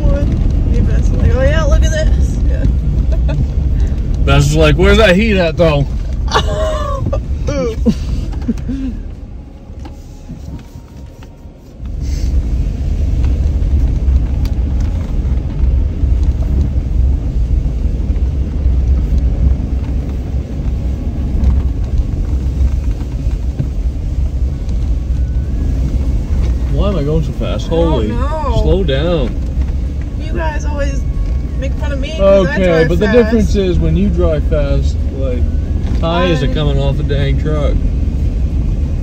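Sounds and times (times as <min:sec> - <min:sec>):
truck engine and tyres rumbling: 0:00.0 - 0:39.0.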